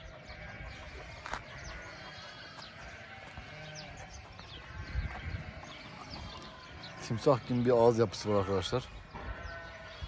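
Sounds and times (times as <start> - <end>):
faint sheep bleating: 0.1 - 10.0.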